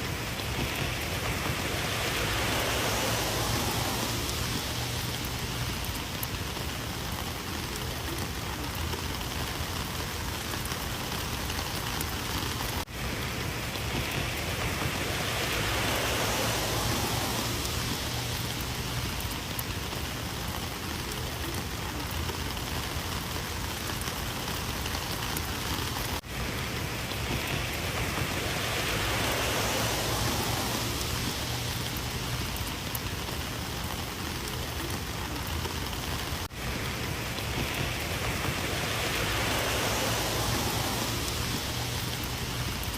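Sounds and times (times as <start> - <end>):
rain pattering on surfaces: 0.0 - 42.9.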